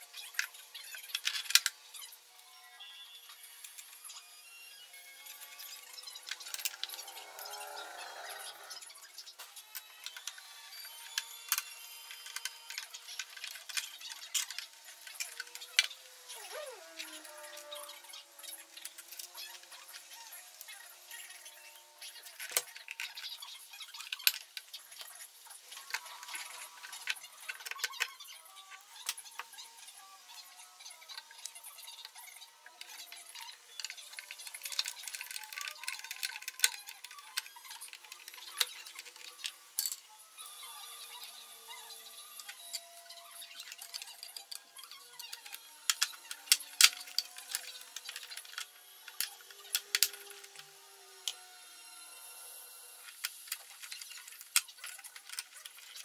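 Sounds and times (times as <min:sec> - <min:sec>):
small parts clicking and clinking: 0:00.0 - 0:56.0.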